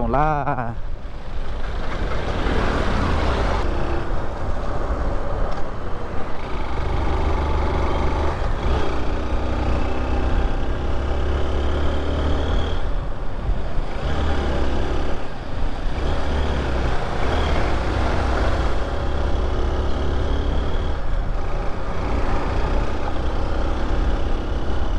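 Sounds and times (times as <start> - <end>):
motorcycle engine: 0.8 - 24.9.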